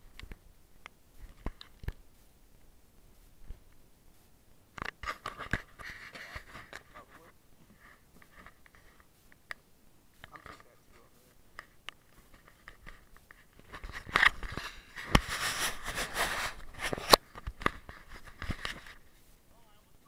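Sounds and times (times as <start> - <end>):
rustling on camera microphone: 0.0 - 19.7.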